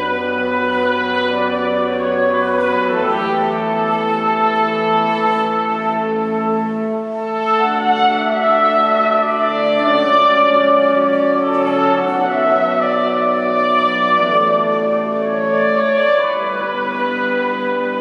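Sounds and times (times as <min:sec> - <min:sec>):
wind band playing slow chords: 0:00.0 - 0:18.0.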